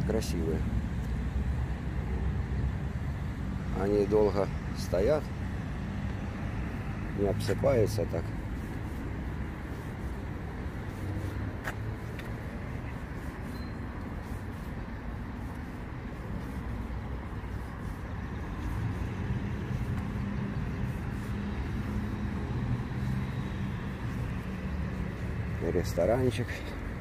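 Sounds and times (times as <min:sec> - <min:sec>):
road traffic rumble: 0:00.0 - 0:27.0
vehicle engine hum: 0:00.0 - 0:27.0.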